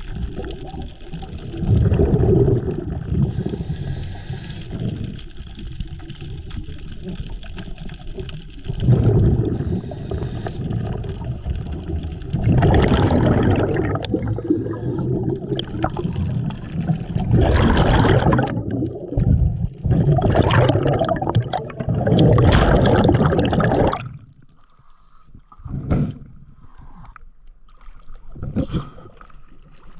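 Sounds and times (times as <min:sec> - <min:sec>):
diver's bubbles rushing and gurgling: 0:00.0 - 0:24.4.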